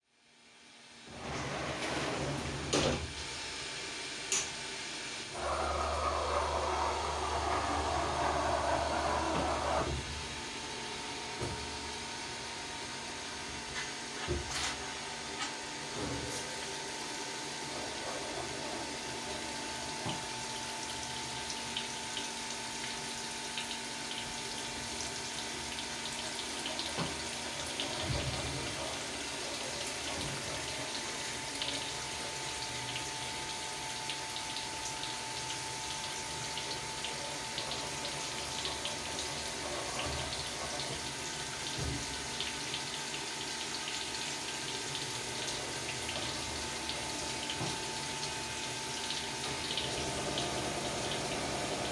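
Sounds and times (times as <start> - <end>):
milling machine whine: 1.1 - 51.9
coolant rushing: 5.1 - 15.2, 15.8 - 51.9.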